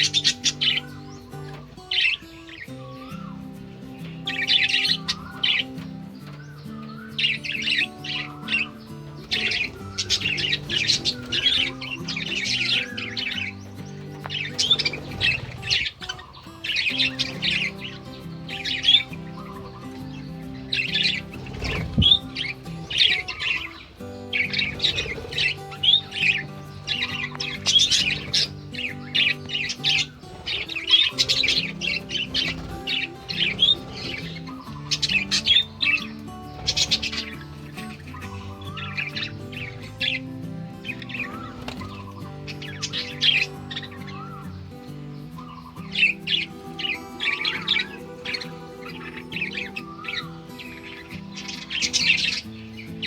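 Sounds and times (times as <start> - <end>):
budgerigars chattering and chirping: 0.0 - 53.0
music of slow held notes: 0.0 - 53.0.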